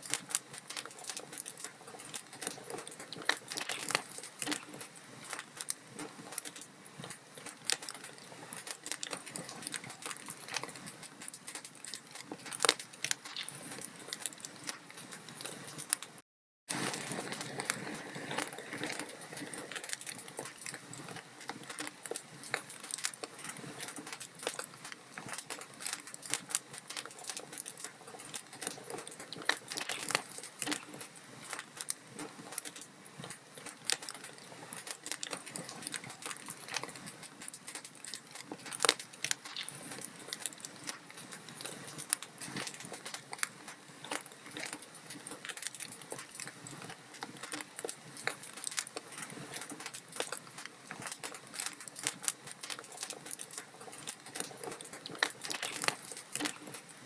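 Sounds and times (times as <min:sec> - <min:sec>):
log fire crackling and popping: 0:00.0 - 0:57.0.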